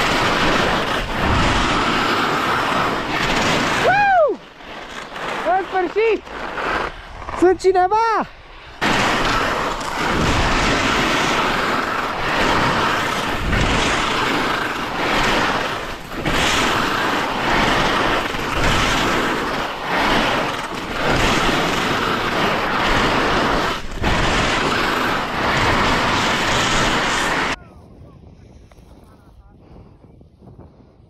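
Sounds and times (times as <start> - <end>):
skis scraping over snow: 0.0 - 27.6
wind on microphone: 0.0 - 31.0.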